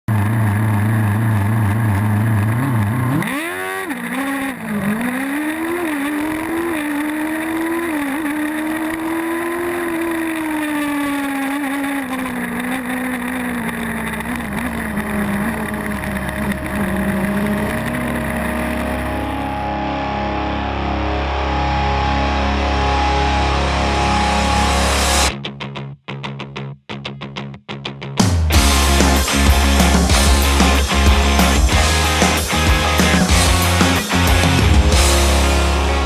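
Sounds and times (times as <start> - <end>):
race car engine revving: 0.0 - 25.3, 28.5 - 36.0.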